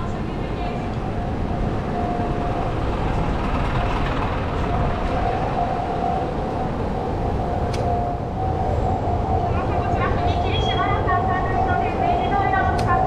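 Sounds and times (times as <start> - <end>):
level crossing alarm ringing: 0.0 - 3.2, 4.6 - 13.0
street traffic hum: 0.0 - 13.0.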